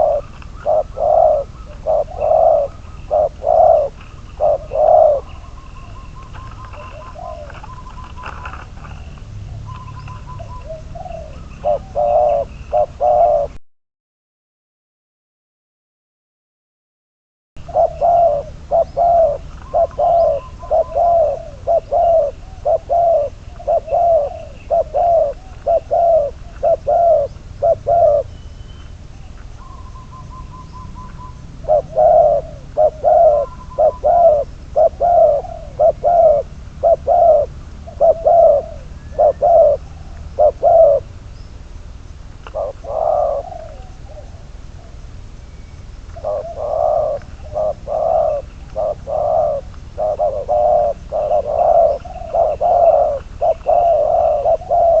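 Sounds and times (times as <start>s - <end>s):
dove cooing: 0.0s - 13.6s, 17.6s - 55.0s
faint bird chirps: 0.0s - 13.6s, 17.6s - 36.4s, 42.5s - 55.0s.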